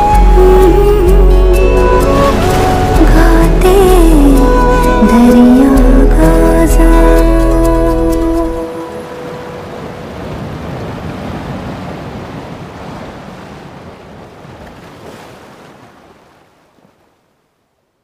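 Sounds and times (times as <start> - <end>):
ocean waves breaking on shore: 0.0 - 17.6.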